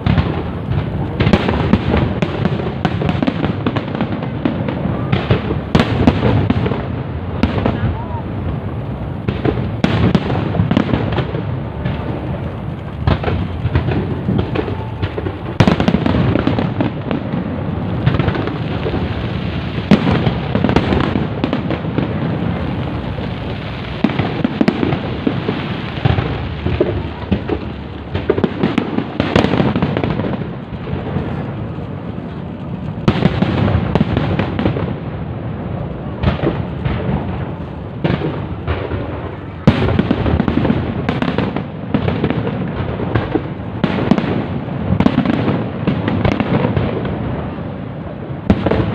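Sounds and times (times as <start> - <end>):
fireworks booming and crackling: 0.0 - 48.9
loud firework bangs: 0.0 - 48.9.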